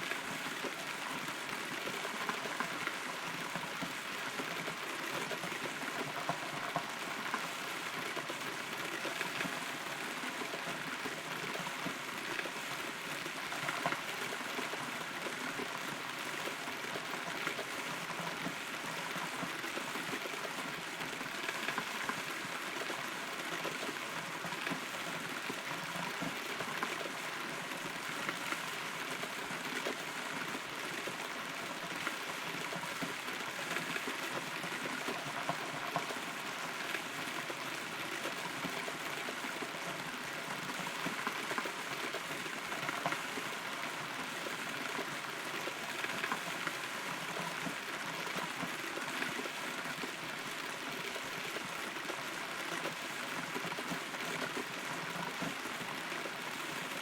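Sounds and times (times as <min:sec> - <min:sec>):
rain pattering on wood and leaves: 0:00.0 - 0:57.0.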